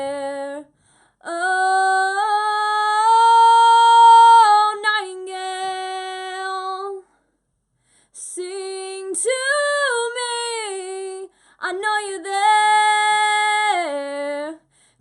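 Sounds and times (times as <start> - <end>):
woman singing unaccompanied: 0.0 - 7.1, 8.2 - 14.6.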